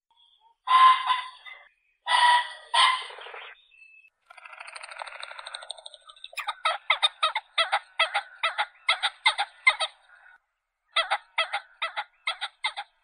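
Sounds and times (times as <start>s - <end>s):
pheasant calling: 0.6s - 3.6s, 4.4s - 13.0s.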